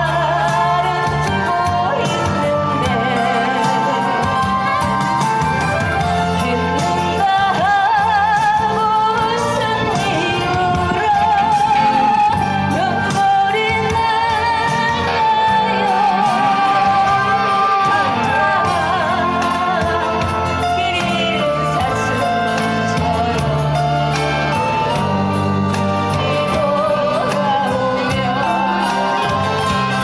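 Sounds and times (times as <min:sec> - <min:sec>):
instrumental backing track: 0:00.0 - 0:30.0
person singing a ballad: 0:00.0 - 0:30.0.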